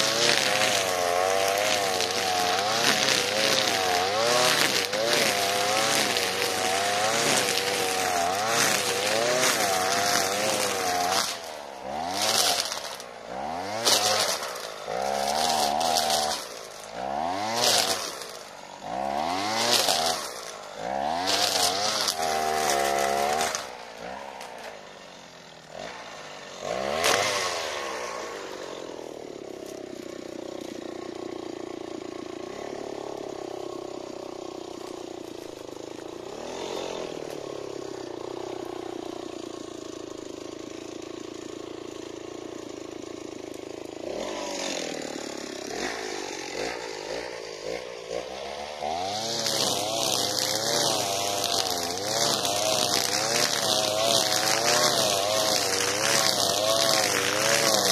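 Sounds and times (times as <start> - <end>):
brushcutter engine revving: 0.0 - 57.9.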